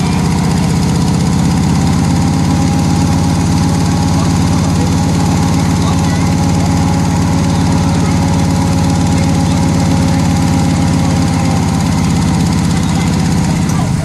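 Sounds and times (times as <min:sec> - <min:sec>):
loud off-road vehicle engine running: 0:00.0 - 0:14.0.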